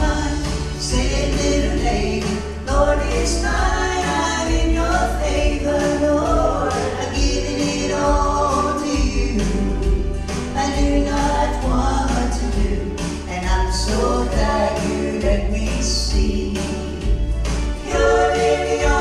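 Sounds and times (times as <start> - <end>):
women singing in harmony: 0.0 - 10.0, 10.6 - 13.0, 13.6 - 17.2, 17.8 - 19.0
instrumental accompaniment with bass: 0.0 - 19.0.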